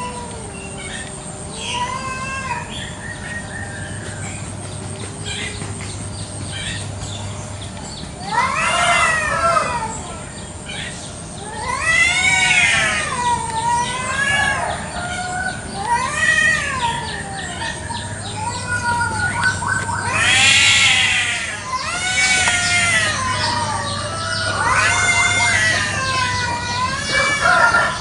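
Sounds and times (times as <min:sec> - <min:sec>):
cats yowling: 0:00.0 - 0:05.7, 0:08.2 - 0:28.0.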